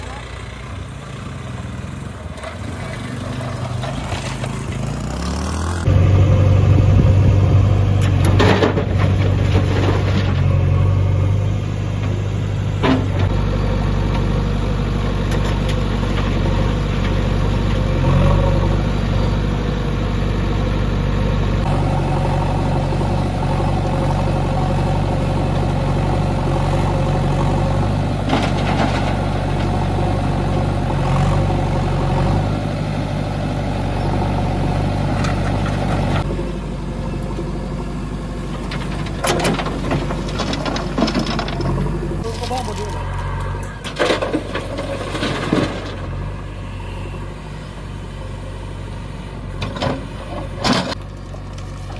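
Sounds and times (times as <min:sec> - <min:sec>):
diesel engines running: 0:00.0 - 0:51.9
backhoe clanking: 0:02.3 - 0:32.9, 0:33.9 - 0:46.7, 0:49.4 - 0:51.9.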